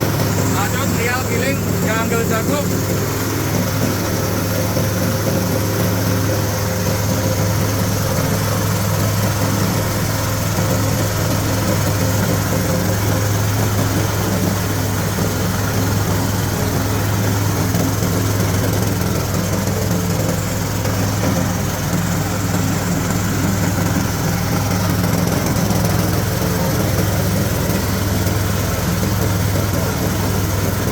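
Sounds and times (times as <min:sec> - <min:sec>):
diesel engine hum: 0:00.0 - 0:30.9
grinding mill whirring: 0:00.0 - 0:30.9.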